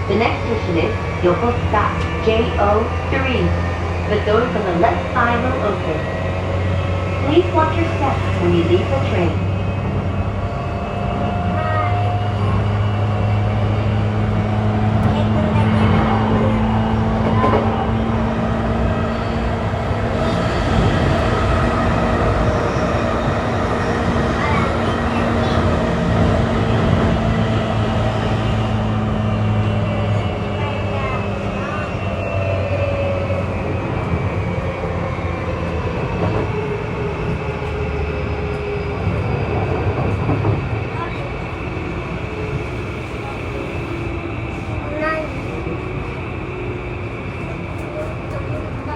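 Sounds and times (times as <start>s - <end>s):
train wheels rolling on rails: 0.1s - 48.9s.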